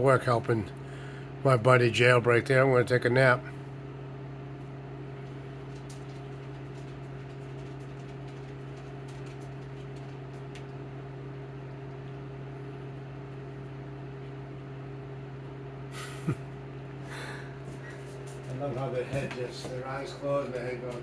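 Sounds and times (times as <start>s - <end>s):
small electric fan humming: 0.0s - 21.0s.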